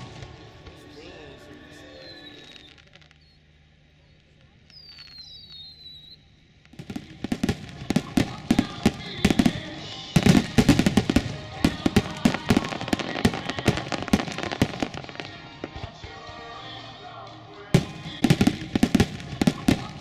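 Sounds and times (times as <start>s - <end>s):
fireworks falling whistles: 0.0s - 20.0s.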